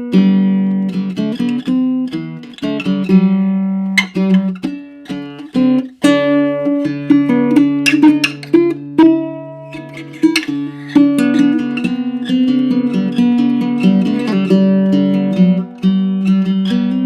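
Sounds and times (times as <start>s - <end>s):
baritone ukulele plucked: 0.0s - 17.0s.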